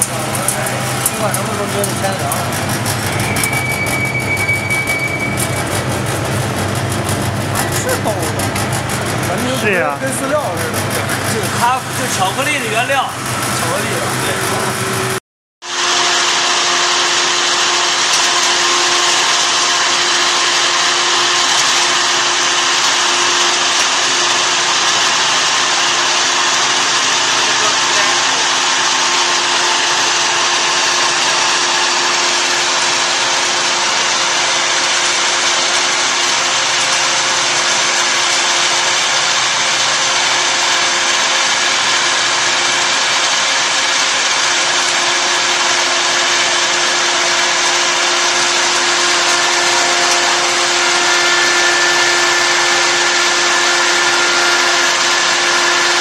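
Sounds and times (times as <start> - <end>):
constant machine whine: 0.0 - 56.0
grinding machine whirring hum: 0.0 - 56.0.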